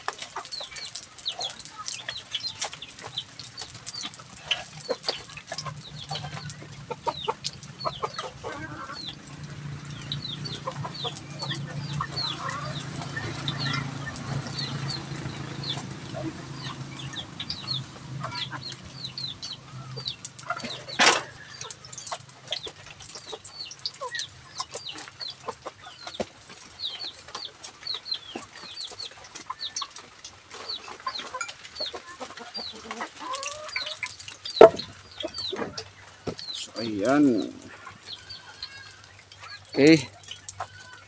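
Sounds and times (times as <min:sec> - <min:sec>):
chickens clucking: 0:00.0 - 0:41.0.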